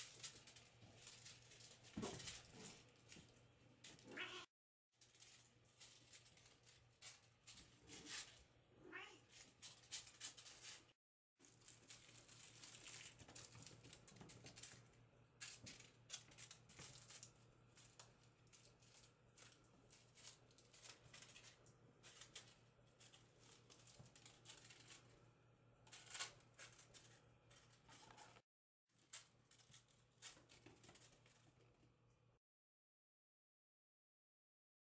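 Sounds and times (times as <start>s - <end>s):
kittens batting toys on tile floor: 0.0s - 4.3s, 5.0s - 8.5s, 9.2s - 25.2s, 25.8s - 31.9s.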